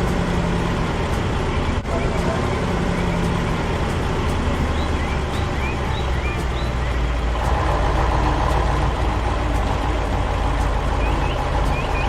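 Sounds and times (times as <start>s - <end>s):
construction vehicle engine rumbling: 0.0s - 12.0s.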